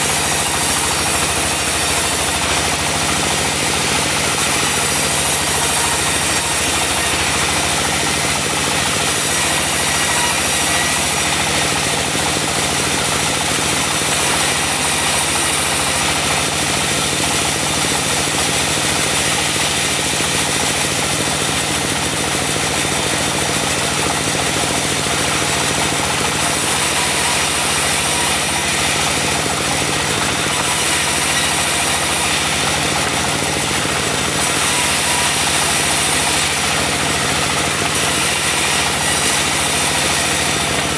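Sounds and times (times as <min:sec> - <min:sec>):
band saw cutting wood: 0:00.0 - 0:40.9.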